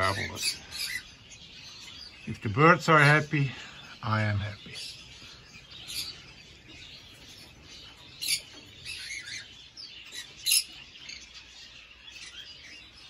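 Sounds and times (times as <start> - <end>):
cockatiels chirping: 0.0 - 2.3, 4.8 - 13.0.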